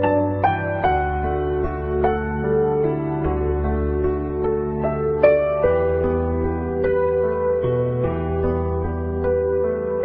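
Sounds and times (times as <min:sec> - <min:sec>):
gentle plucked background music: 0:00.0 - 0:10.0.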